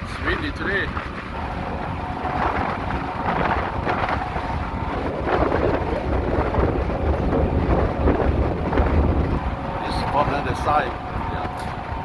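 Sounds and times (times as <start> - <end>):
boat low rumble: 0.0 - 12.0
wind buffeting microphone: 0.0 - 12.0.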